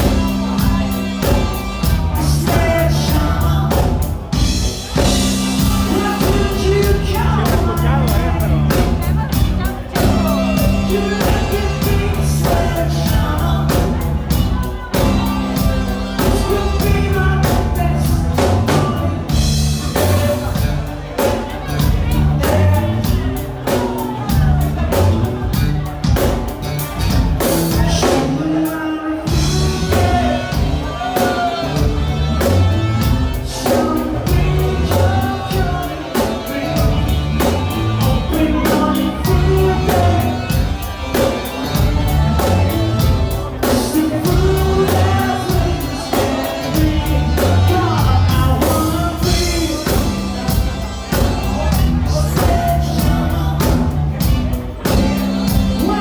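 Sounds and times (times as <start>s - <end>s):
bass: 0.0s - 56.0s
drum kit beat: 0.0s - 56.0s
person singing: 0.0s - 56.0s.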